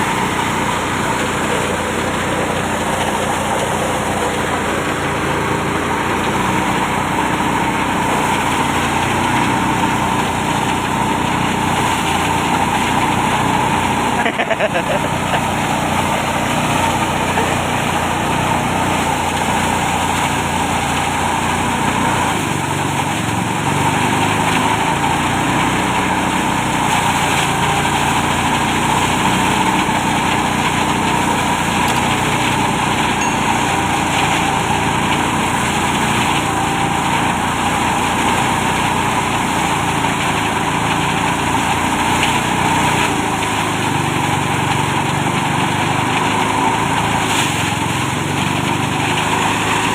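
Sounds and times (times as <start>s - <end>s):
small engine drone: 0.0s - 49.9s.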